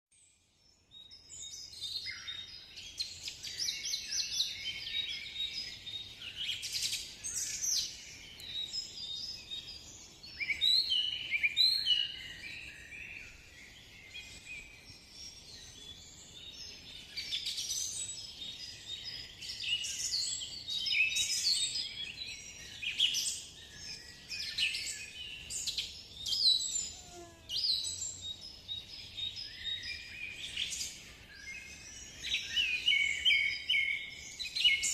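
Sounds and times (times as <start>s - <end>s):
birds singing and chirping: 0.2s - 34.9s.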